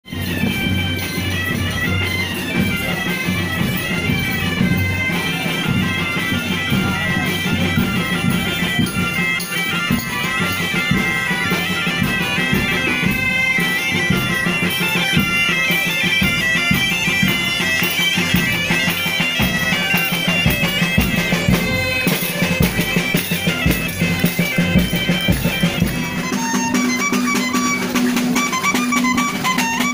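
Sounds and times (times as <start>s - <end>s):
bagpipes playing folk tune: 0.1s - 29.9s.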